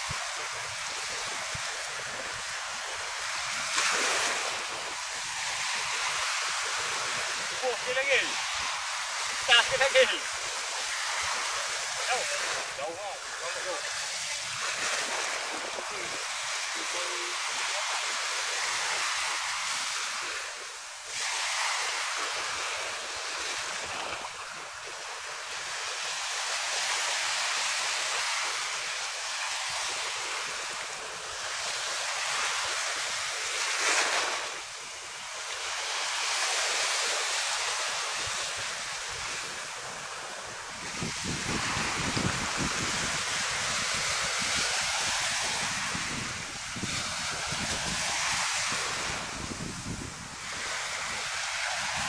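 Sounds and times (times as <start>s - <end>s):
small waves washing ashore: 0.0s - 52.0s
wind: 0.0s - 52.0s.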